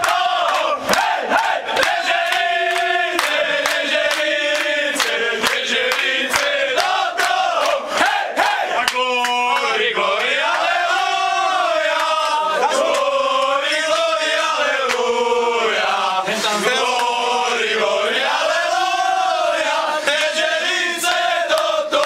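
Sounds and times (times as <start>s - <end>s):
men chanting in unison: 0.0s - 22.0s.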